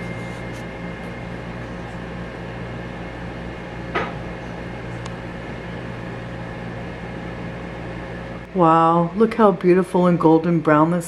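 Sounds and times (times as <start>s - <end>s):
oven hum and fan noise: 0.0s - 11.0s.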